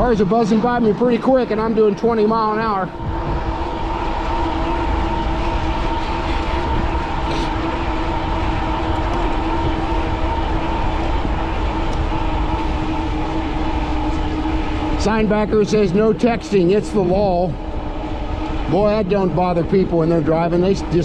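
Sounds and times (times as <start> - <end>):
e-bike motor whine: 0.0 - 21.0
wind and tyre rumble: 0.0 - 21.0.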